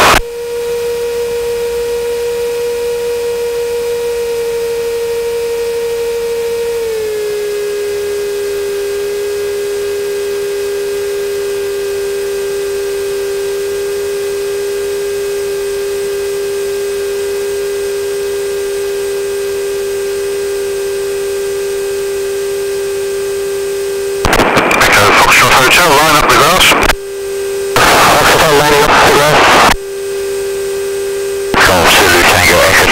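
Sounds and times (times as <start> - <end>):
aircraft engine and propeller drone: 0.0 - 32.9.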